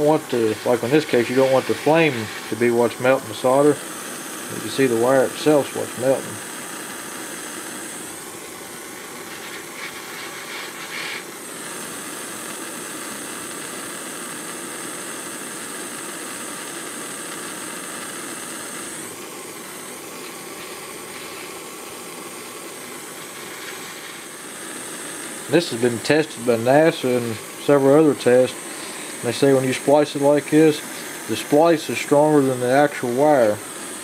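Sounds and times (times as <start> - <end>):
torch flame hissing: 0.0 - 34.0.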